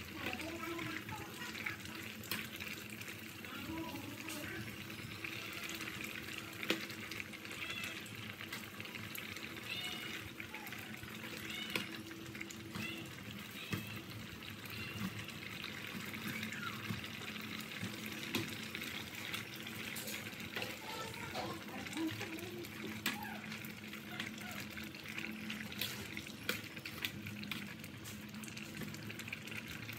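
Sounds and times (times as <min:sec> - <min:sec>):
soup simmering and sloshing: 0:00.0 - 0:29.9.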